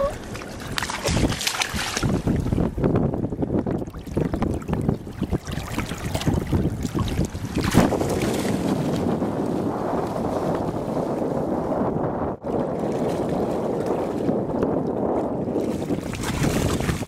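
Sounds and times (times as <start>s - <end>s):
splashing through shallow water: 0.0s - 2.8s, 3.6s - 10.7s, 12.4s - 17.0s
wind rumbling on microphone: 0.0s - 17.0s.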